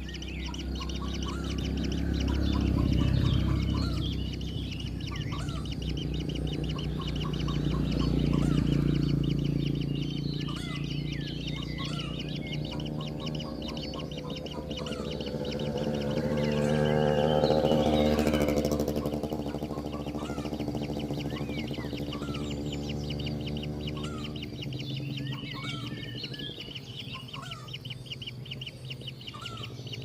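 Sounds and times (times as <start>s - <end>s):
birds trilling and chirping: 0.0s - 30.0s.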